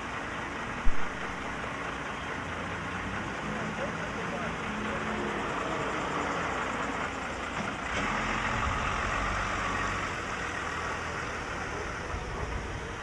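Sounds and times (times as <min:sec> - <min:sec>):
lorry diesel engine running: 0:00.0 - 0:13.0
rumble of cars: 0:00.0 - 0:13.0.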